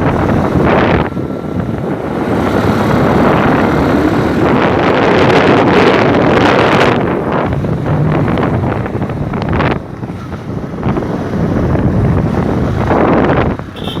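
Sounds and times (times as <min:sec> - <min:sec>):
low rumble: 0:00.0 - 0:13.0
wind buffeting microphone: 0:00.0 - 0:14.0.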